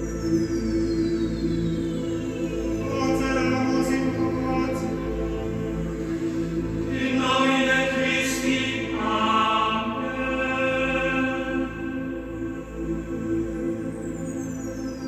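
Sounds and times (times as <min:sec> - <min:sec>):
ambient backing music: 0:00.0 - 0:15.0
choir chanting long notes: 0:02.1 - 0:14.4.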